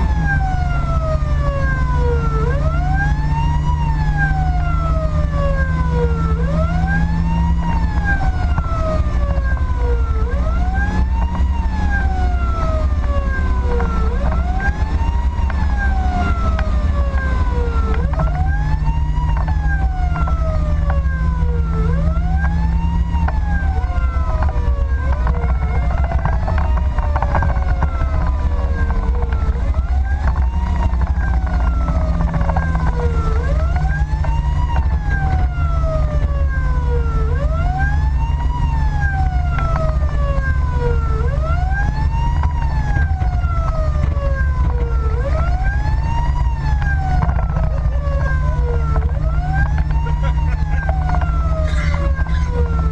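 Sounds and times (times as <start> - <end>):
fire engine siren wailing: 0.0 - 52.9
road noise: 0.0 - 52.9
truck engine rumble: 0.0 - 52.9.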